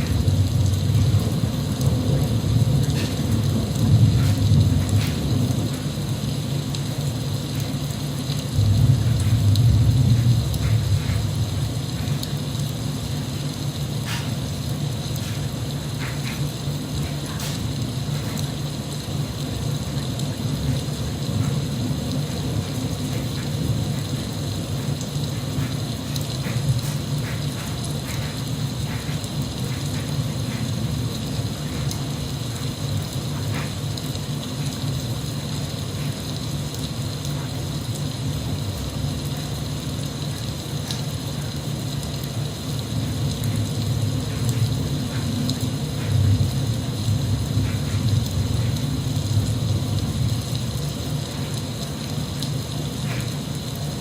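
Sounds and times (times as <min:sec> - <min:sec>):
drips ticking: 0:00.0 - 0:54.0
steady rain: 0:00.0 - 0:54.0.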